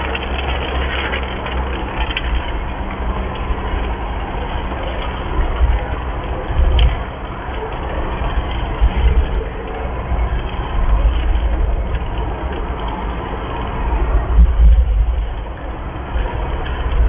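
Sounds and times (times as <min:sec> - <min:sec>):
rain falling: 0:00.0 - 0:17.0
wind buffeting microphone: 0:00.0 - 0:17.0.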